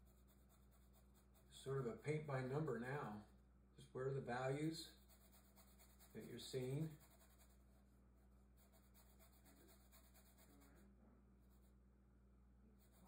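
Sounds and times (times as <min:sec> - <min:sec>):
paintbrush scratching on canvas: 0:00.0 - 0:03.4, 0:04.7 - 0:11.8, 0:12.8 - 0:13.0
low steady hum: 0:00.0 - 0:13.0.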